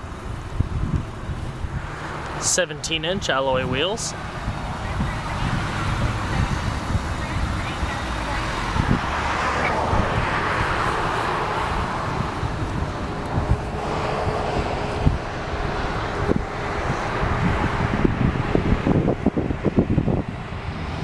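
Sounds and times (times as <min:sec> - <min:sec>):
highway traffic rushing: 0:00.0 - 0:21.0
wind buffeting microphone: 0:00.0 - 0:21.0.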